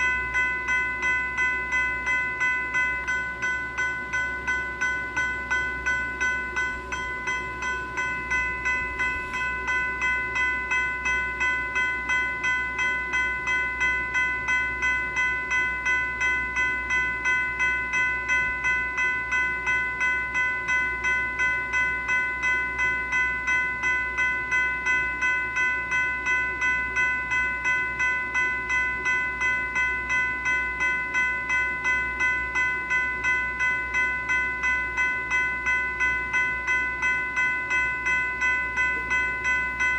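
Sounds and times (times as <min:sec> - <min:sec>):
electronic bell ringing: 0:00.0 - 0:39.9.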